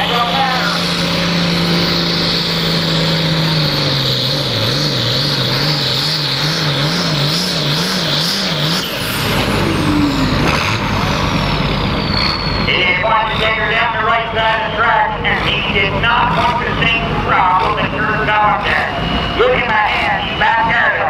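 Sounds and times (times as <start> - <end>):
tractor diesel engine at full power: 0.0 - 21.0.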